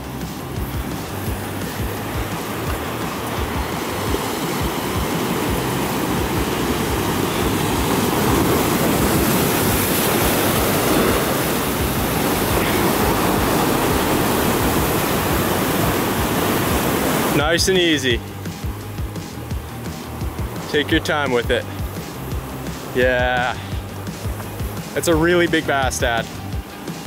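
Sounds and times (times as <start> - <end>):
surf breaking over rocks: 0.0 - 27.0.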